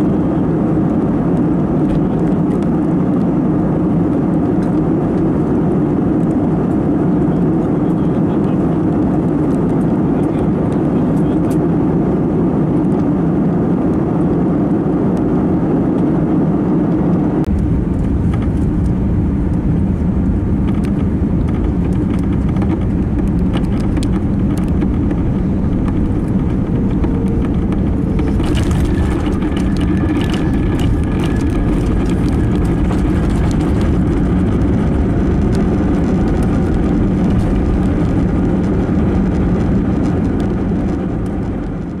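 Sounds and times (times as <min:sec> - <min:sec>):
cabin air and engine noise: 0:00.0 - 0:42.0
jet engines roaring and whining: 0:00.0 - 0:42.0
wheels rumbling on runway: 0:00.0 - 0:42.0.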